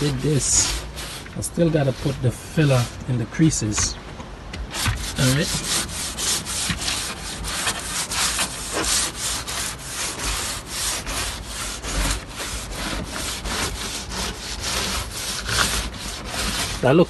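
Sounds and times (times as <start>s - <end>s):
push broom scrubbing wood: 0.0s - 4.0s, 4.6s - 17.0s.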